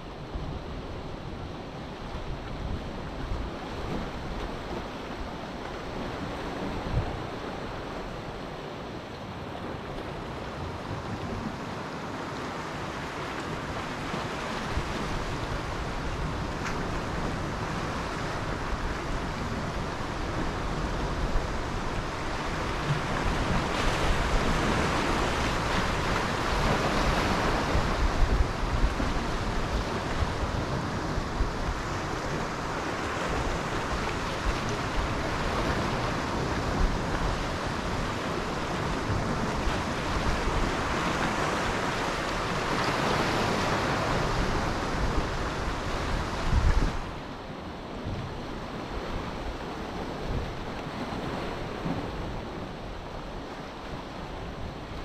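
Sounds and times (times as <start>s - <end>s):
sea surf washing in: 0.0s - 55.0s
wind rumbling on microphone: 0.0s - 55.0s.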